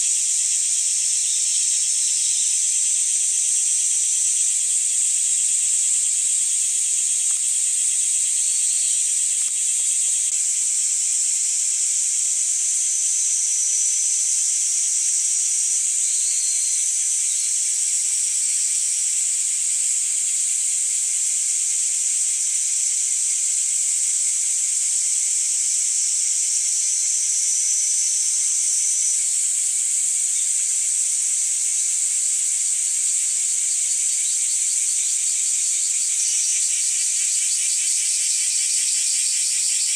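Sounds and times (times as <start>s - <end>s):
insects singing: 0.0s - 21.0s, 21.6s - 39.9s
short insect calls: 0.0s - 39.9s.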